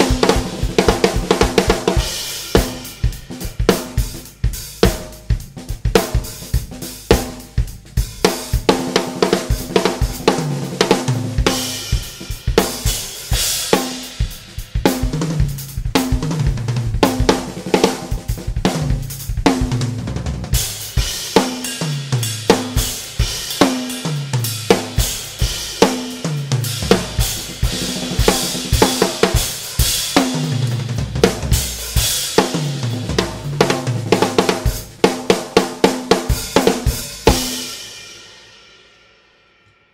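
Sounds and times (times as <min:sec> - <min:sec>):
snare drum: 0:00.0 - 0:37.8
drum kit groove: 0:00.0 - 0:39.0.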